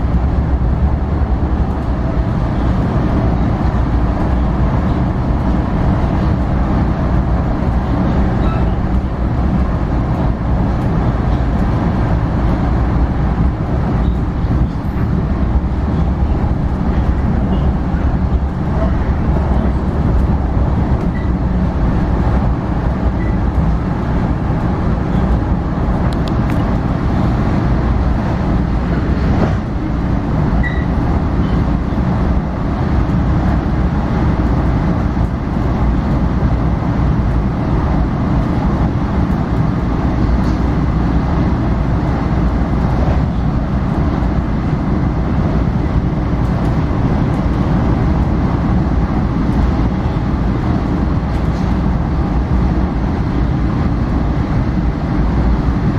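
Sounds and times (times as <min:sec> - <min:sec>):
train rumble from inside car: 0:00.0 - 0:55.9.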